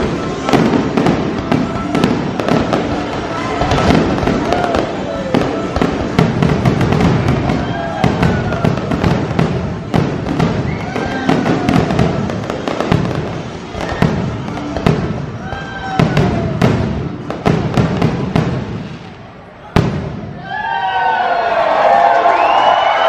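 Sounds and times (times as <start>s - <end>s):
fireworks bangs and crackling: 0.0s - 20.5s.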